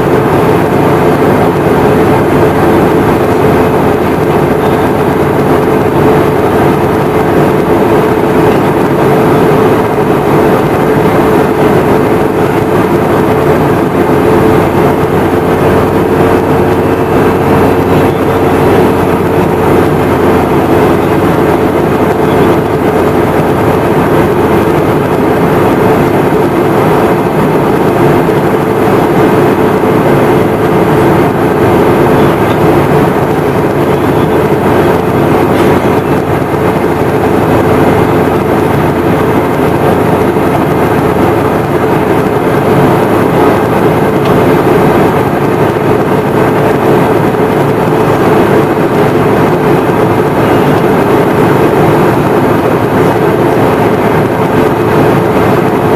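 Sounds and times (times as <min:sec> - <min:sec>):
airplane cabin engine drone: 0:00.0 - 0:55.9.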